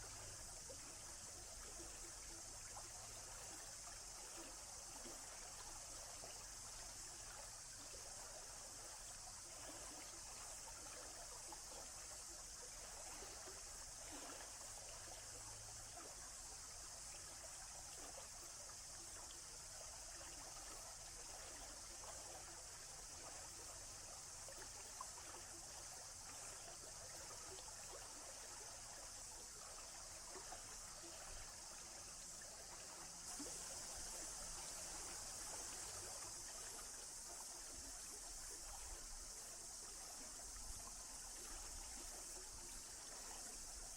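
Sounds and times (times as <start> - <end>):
stream trickling with splashes: 0.0 - 43.9.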